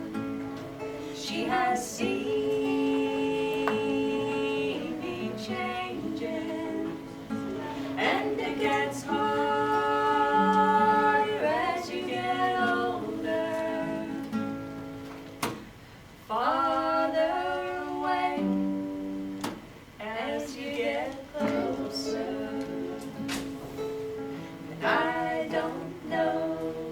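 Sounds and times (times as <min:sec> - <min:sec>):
acoustic guitar: 0:00.0 - 0:26.9.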